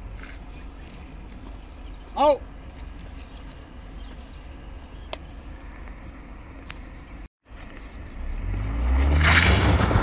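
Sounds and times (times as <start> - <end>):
suv engine idling and revving: 0.0 - 10.0.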